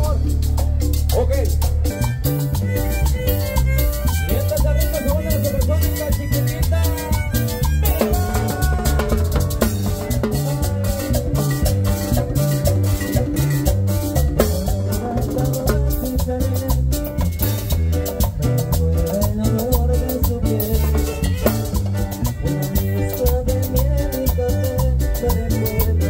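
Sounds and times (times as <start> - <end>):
drum kit and timbales beat: 0.0 - 26.0
live latin dance band: 0.0 - 26.0.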